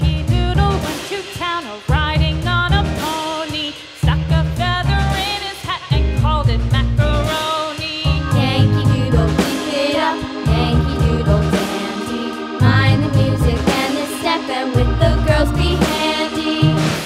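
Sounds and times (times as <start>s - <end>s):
children's song with bass beat: 0.0s - 17.0s.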